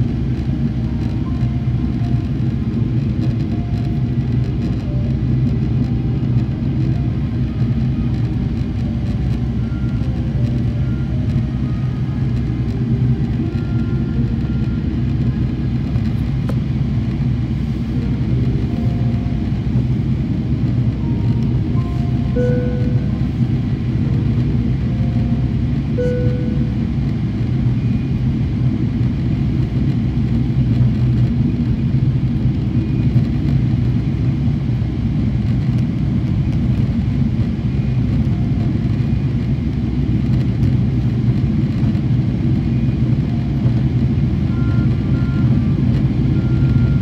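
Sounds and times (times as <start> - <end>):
airplane cabin roar: 0.0 - 47.0.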